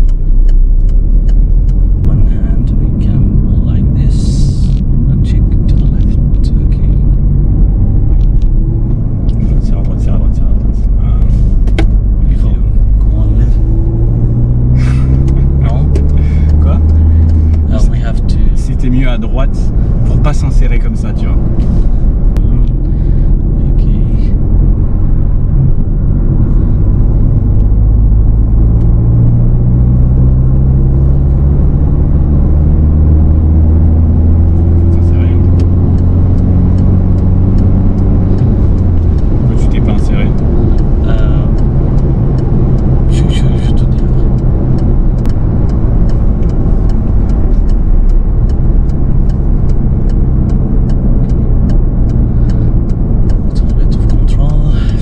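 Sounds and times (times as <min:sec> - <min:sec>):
car engine and road noise: 0:00.0 - 0:55.0
light regular ticking: 0:00.0 - 0:55.0.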